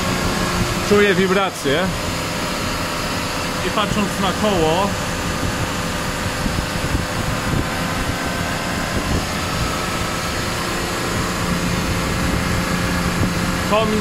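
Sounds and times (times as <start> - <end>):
drivetrain mechanical whir: 0.0 - 14.0
steady low hum: 0.0 - 14.0.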